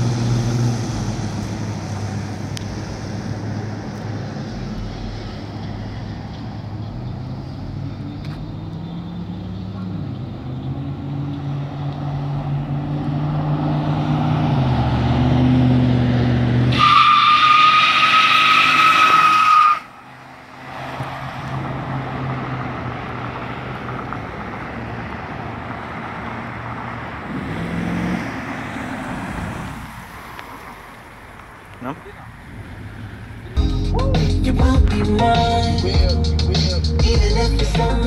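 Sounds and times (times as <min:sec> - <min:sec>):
car engine pulling: 0:00.0 - 0:33.6
tires squealing: 0:00.0 - 0:33.6
road noise: 0:00.0 - 0:38.0.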